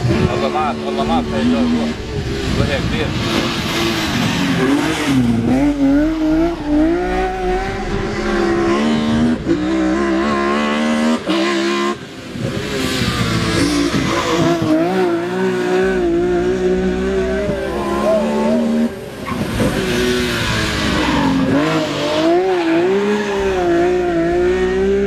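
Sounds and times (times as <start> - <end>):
race car engine revving hard: 0.0 - 25.0.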